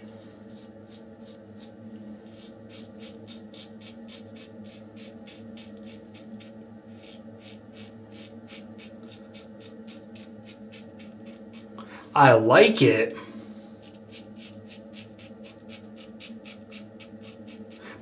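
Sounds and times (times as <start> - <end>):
razor scraping stubble: 0.0 - 11.8, 13.8 - 18.0.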